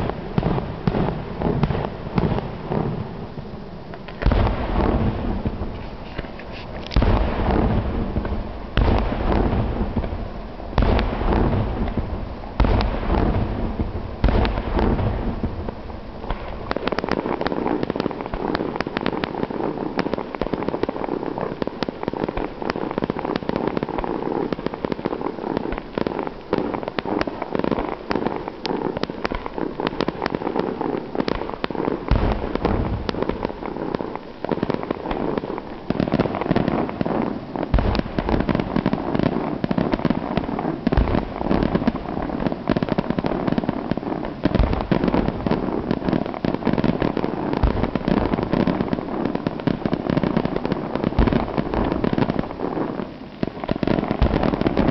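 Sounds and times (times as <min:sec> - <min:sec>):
deep firework booms: 0:00.0 - 0:54.9
fireworks crackling and popping: 0:00.0 - 0:54.9.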